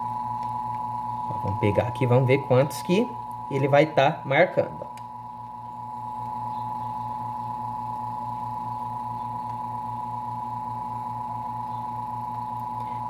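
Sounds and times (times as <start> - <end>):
electric fan motor humming: 0.0 - 13.0
high motor whine: 0.0 - 13.0.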